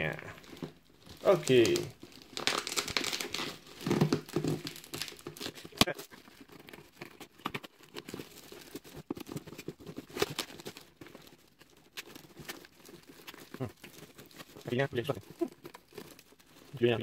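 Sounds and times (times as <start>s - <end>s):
plastic crinkling and crackling: 0.0s - 17.0s
tape tearing: 0.4s - 17.0s.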